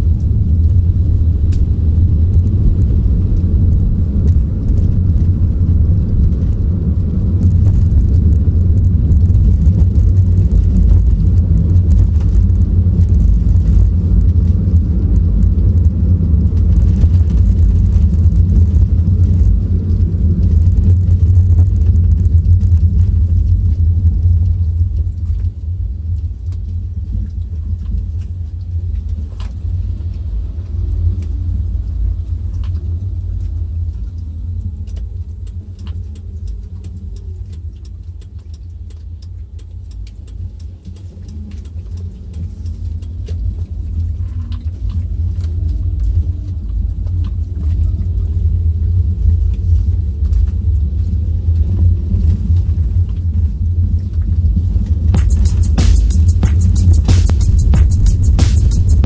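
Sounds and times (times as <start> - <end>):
car road and engine rumble: 0.0 - 55.7.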